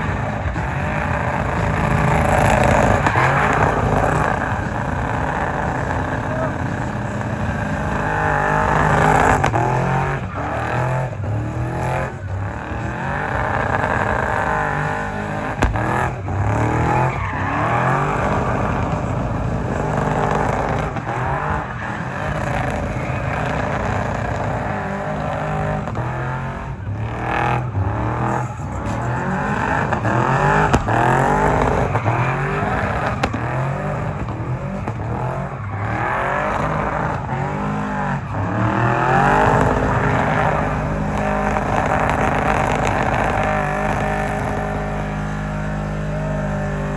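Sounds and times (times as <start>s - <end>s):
car engines revving hard: 0.0s - 46.9s.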